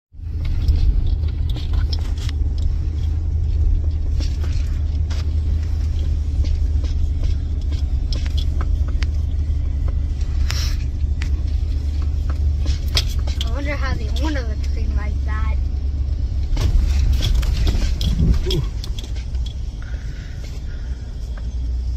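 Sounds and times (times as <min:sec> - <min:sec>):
vehicle cabin rumble: 0:00.1 - 0:21.9
clicks and rattles: 0:00.2 - 0:14.9, 0:16.4 - 0:19.8.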